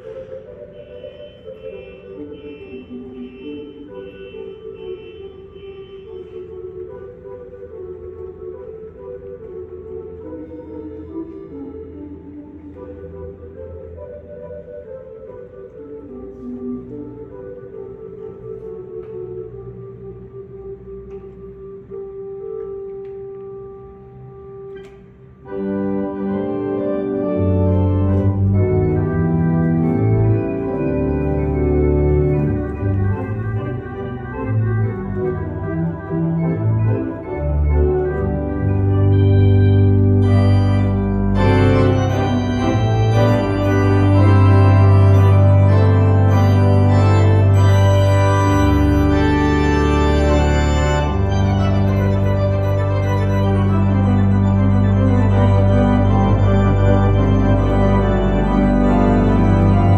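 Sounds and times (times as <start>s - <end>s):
organ playing loud chords: 0.0s - 59.9s.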